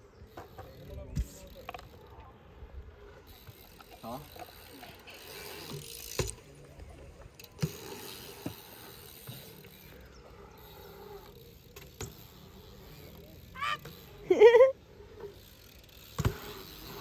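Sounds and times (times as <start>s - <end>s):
bike tyres rolling on concrete: 0.0s - 17.0s.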